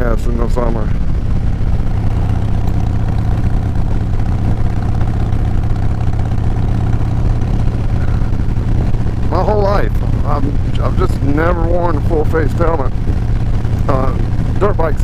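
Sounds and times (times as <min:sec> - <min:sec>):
motorcycle engine cruising: 0:00.0 - 0:15.0
wind noise: 0:00.8 - 0:15.0.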